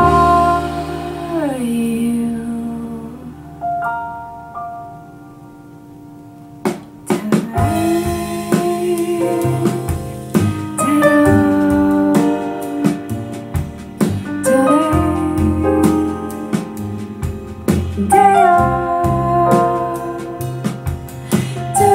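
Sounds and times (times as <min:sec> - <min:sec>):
instrumental piano music: 0:00.0 - 0:21.9.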